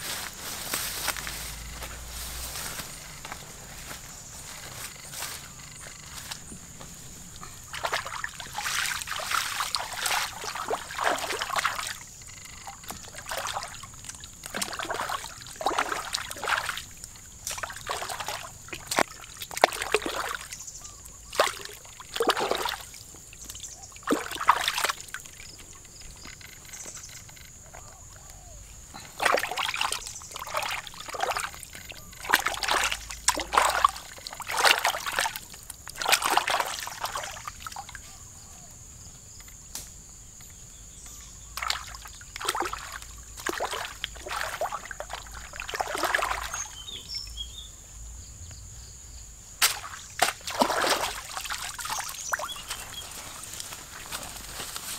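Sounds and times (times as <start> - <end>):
water splashing and sloshing: 0.0 - 38.7, 41.3 - 47.2, 49.6 - 54.9.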